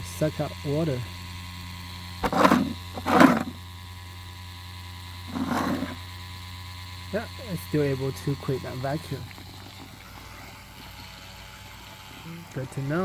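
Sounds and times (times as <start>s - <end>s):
diaphragm pump humming: 0.0s - 13.0s.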